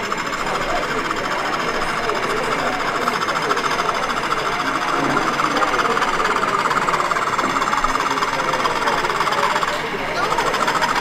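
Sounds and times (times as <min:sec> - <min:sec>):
model train mechanical rattle: 0:00.0 - 0:11.0.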